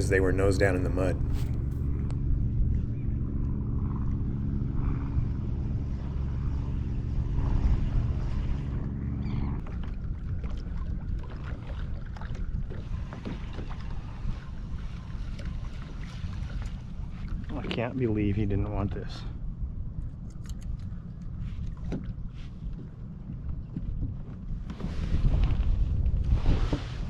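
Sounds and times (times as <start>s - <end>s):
boat drive humming: 0.0s - 25.4s
wind and water rumble on microphone: 0.0s - 27.0s.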